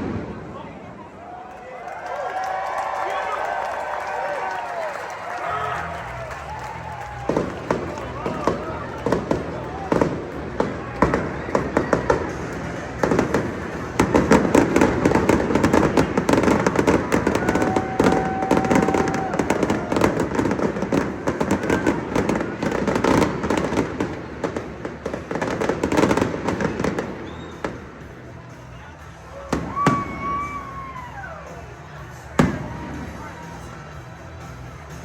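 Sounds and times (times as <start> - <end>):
fireworks crackling and banging: 0.0 - 1.0, 5.8 - 30.9, 32.1 - 34.2.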